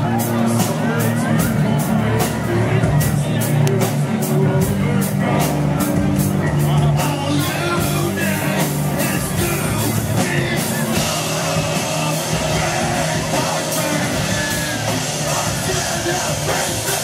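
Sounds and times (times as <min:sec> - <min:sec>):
live rock band with electric guitars: 0:00.0 - 0:17.0.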